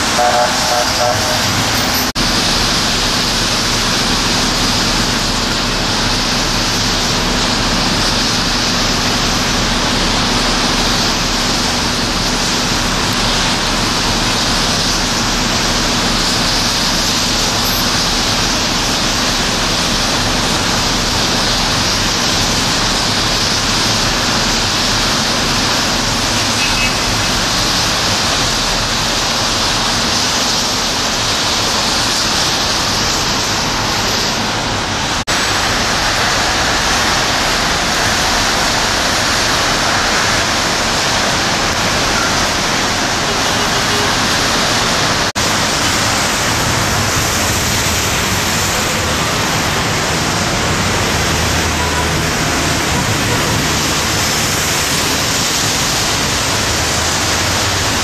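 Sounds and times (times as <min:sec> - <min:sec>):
rain hissing: 0:00.0 - 0:58.0
traffic on wet roads: 0:00.0 - 0:58.0.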